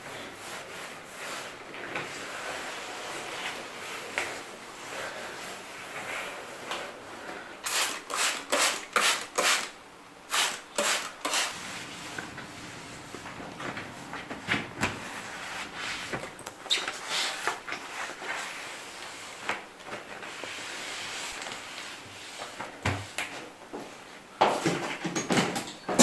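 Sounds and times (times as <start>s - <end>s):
rustling and handling noises: 0.0s - 25.6s.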